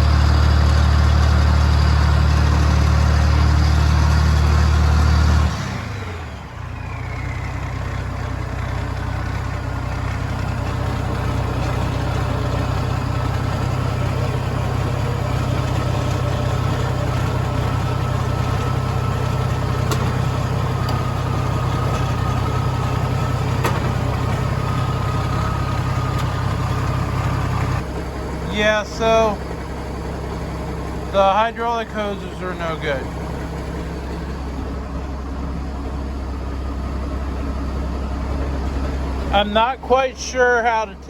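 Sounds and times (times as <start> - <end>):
tractor engine idling: 0.0 - 41.0.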